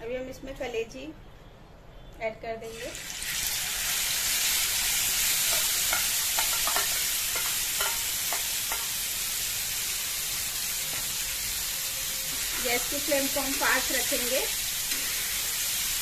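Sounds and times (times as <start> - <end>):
meat sizzling in hot oil: 2.7 - 16.0.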